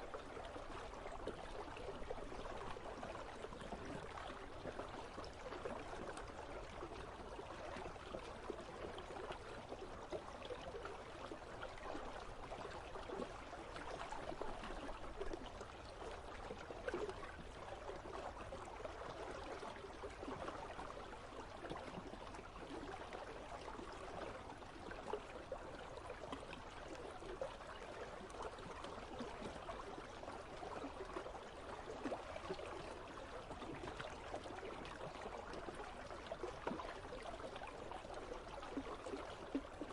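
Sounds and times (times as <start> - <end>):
river flowing and trickling: 0.0 - 39.9.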